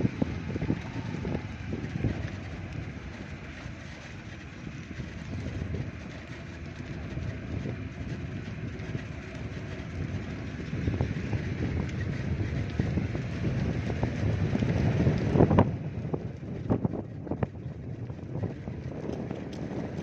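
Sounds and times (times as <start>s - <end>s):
train rumbling on track: 0.0s - 20.0s
wheels knocking: 0.0s - 20.0s.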